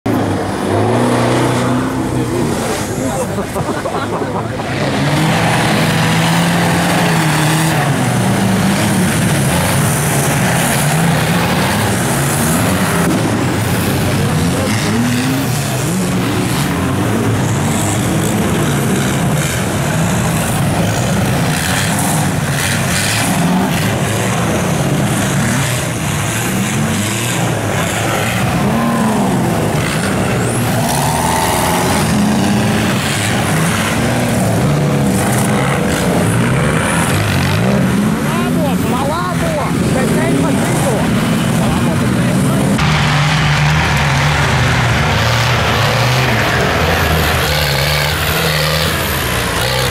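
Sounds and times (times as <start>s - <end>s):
race vehicle engines revving: 0.0s - 49.9s.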